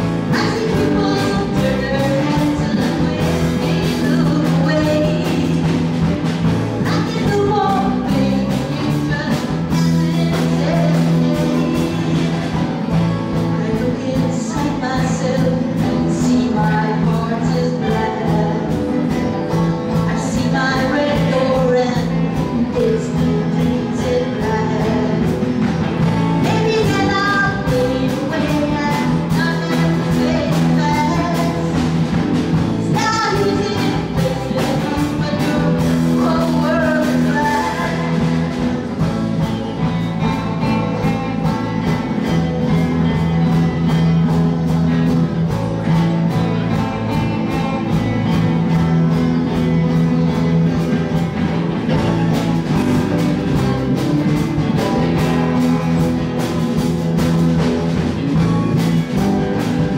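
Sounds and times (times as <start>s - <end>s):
electric bass: 0.0s - 59.9s
guitar: 0.0s - 59.9s.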